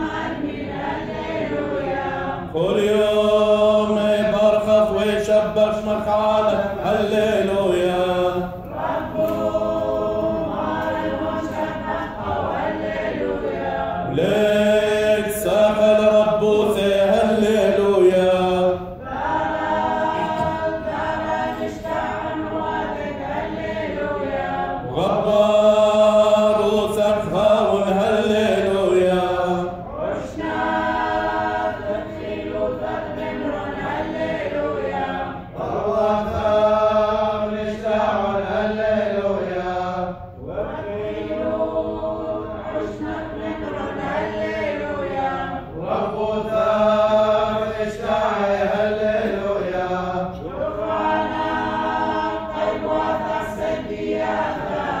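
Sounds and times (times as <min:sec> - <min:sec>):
group chanting unaccompanied: 0:00.0 - 0:55.0.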